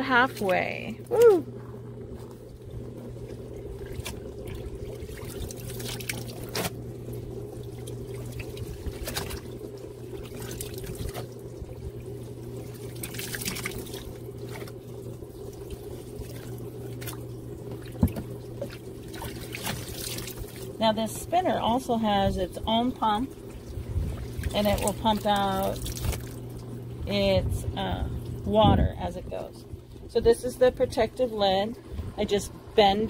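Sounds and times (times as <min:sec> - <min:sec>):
drain pump humming: 0:00.0 - 0:33.0
water pouring and splashing: 0:00.1 - 0:27.2.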